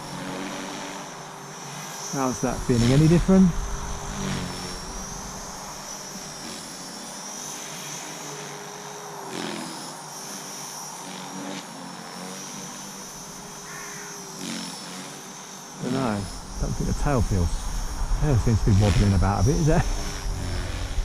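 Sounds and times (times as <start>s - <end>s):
spinning rotor hum: 0.0s - 8.7s, 12.4s - 21.0s
electric motor high whine: 0.0s - 21.0s.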